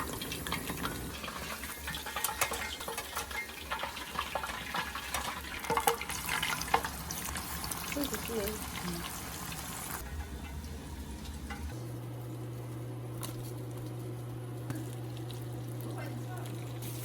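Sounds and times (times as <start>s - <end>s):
oil sizzling while deep-frying: 0.0s - 17.0s.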